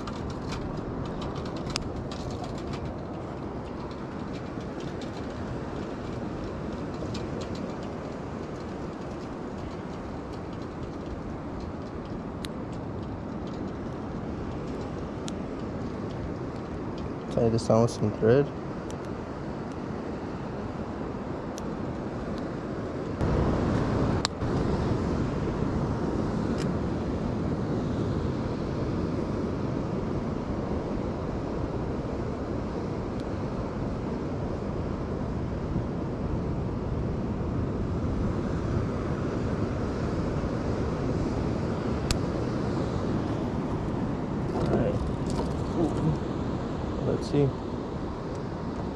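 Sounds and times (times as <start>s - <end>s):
wind noise on microphone: 0.0s - 48.9s.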